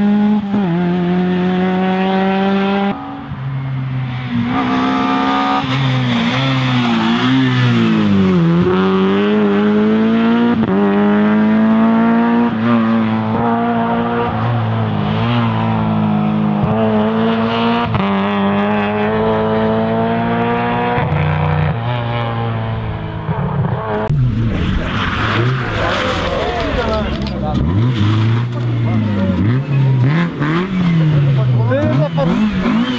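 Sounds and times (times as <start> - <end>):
rally car engine revving through gears: 0.0 - 32.9.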